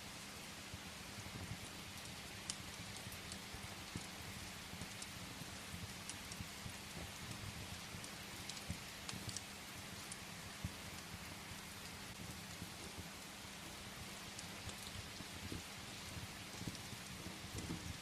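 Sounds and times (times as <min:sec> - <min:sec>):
rain pattering on window: 0:00.0 - 0:18.0
firewood crackling: 0:00.1 - 0:18.0.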